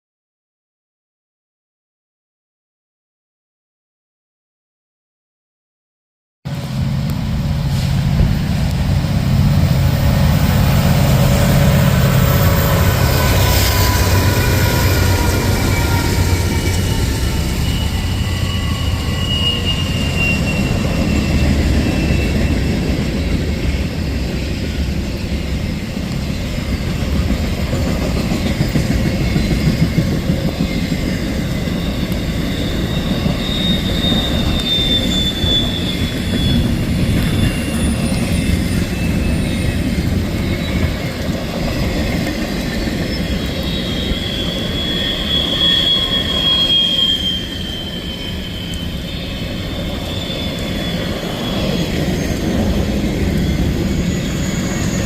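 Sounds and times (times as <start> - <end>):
freight train wheels rumbling: 6.5 - 55.0
high wheel squeal: 8.6 - 55.0.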